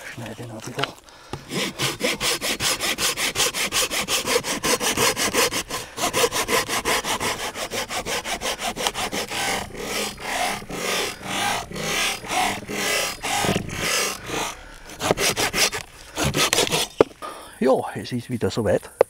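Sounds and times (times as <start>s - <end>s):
hand saw cutting branch: 0.8s - 17.3s.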